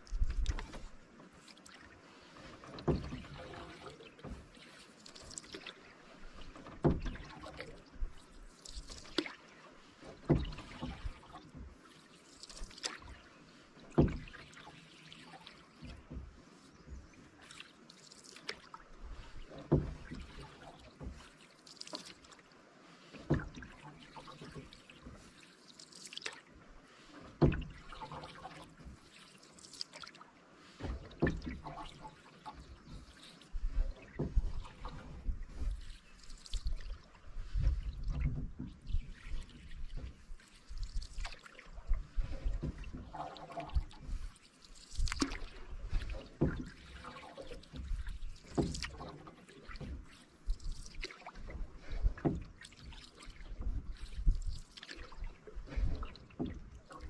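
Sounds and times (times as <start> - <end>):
paddle splashing in water: 0.0 - 57.0
water dripping off paddle: 0.0 - 57.0.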